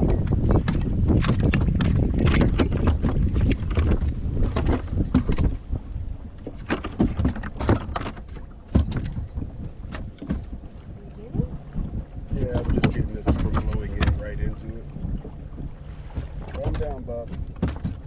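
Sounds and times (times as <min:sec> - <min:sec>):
knocks and clicks on boat: 0:00.0 - 0:18.0
wind buffeting microphone: 0:00.0 - 0:18.0.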